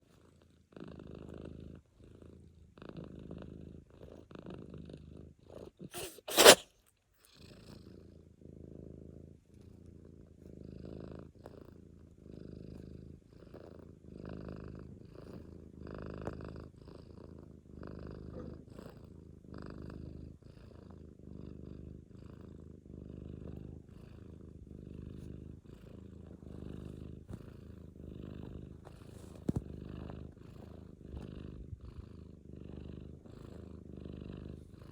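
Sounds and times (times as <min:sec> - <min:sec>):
cat purring: 0:00.0 - 0:06.6, 0:07.2 - 0:34.9.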